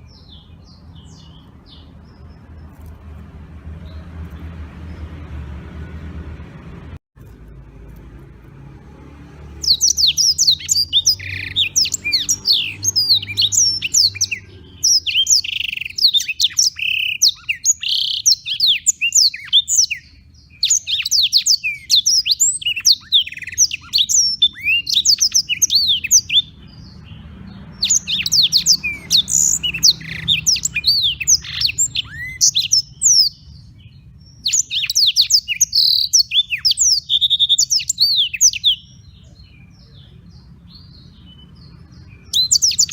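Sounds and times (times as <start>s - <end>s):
canary singing trills: 0.0s - 5.4s, 9.4s - 42.9s.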